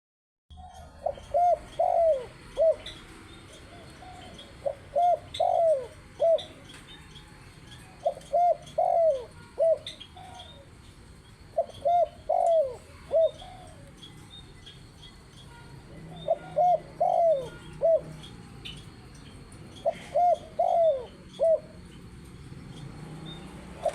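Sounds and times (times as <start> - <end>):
dove cooing: 0.5 - 10.8, 11.4 - 14.2, 15.9 - 22.1, 22.8 - 23.9.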